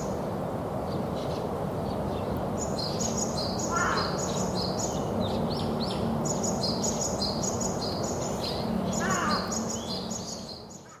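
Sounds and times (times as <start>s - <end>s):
steady background noise: 0.0s - 11.0s
birds chirping: 0.9s - 11.0s.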